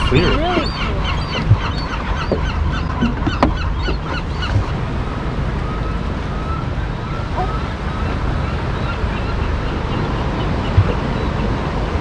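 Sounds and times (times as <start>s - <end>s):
rumble of wind and water: 0.0s - 12.0s
seabirds calling: 0.0s - 12.0s.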